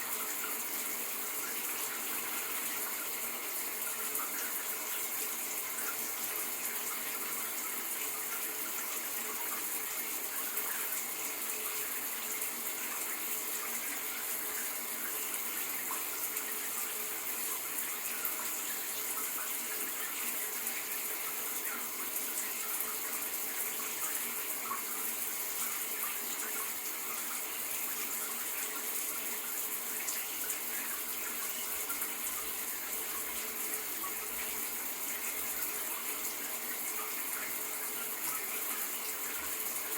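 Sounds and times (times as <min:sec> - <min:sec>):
shower running: 0:00.0 - 0:39.9.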